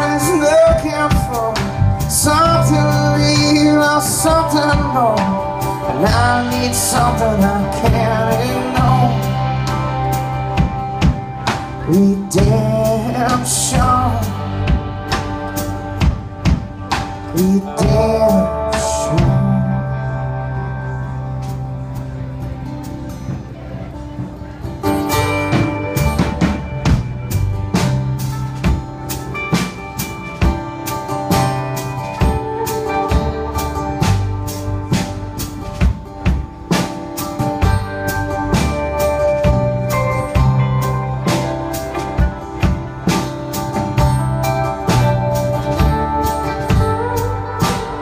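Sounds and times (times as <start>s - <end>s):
drum kit steady beat: 0.0s - 20.0s, 21.0s - 48.0s
acoustic and electric guitars: 0.0s - 48.0s.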